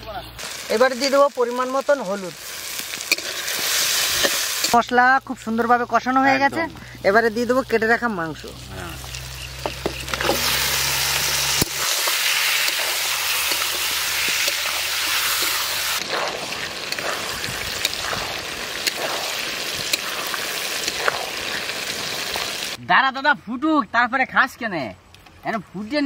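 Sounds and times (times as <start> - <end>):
chicken sizzling in hot oil: 0.3 - 6.3, 6.9 - 22.8.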